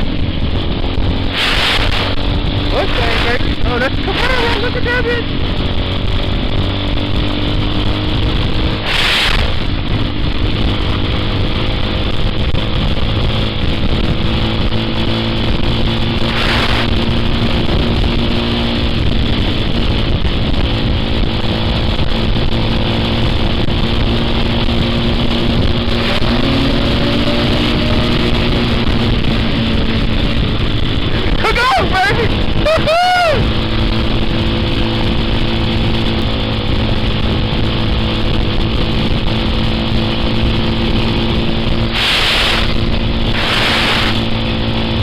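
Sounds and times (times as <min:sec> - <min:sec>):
vehicle engine cruising: 0:00.0 - 0:45.0
wind rushing over microphone: 0:00.0 - 0:45.0.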